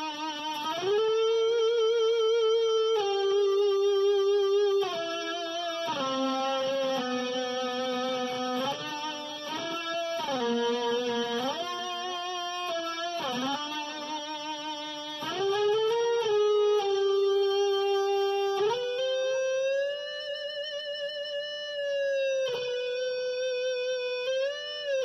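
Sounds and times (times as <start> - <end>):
sustained sliding electric guitar notes: 0.0 - 25.0.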